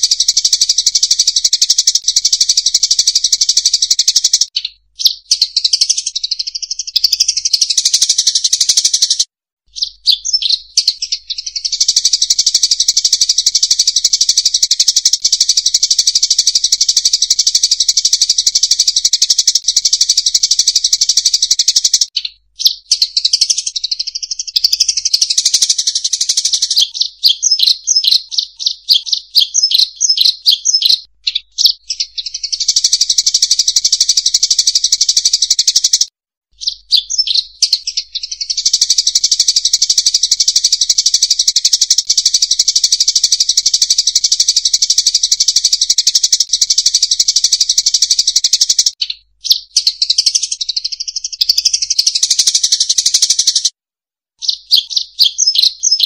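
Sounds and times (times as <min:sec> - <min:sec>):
birds chattering and trilling: 0:00.0 - 0:53.7, 0:54.4 - 0:56.0.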